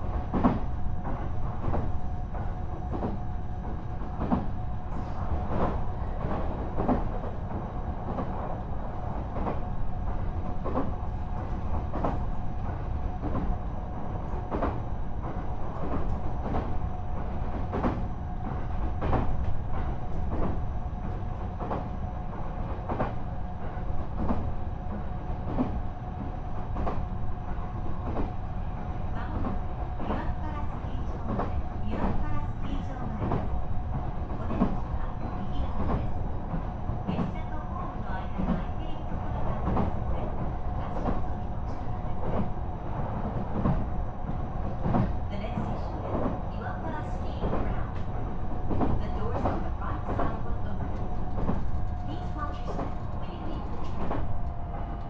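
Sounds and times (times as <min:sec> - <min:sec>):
electric train rumble: 0:00.0 - 0:55.0.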